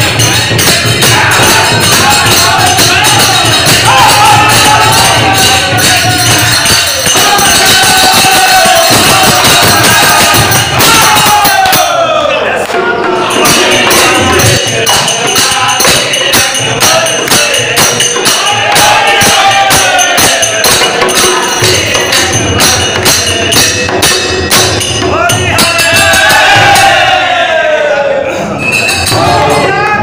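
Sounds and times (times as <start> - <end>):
hand drum: 0.0 - 11.8, 12.8 - 27.0
metallic jingling beat: 0.0 - 27.3, 28.4 - 30.0
men singing folk song: 0.0 - 28.3.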